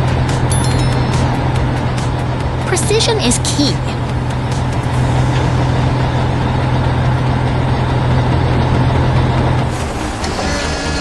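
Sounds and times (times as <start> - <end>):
excavator diesel engine drone: 0.0 - 11.0.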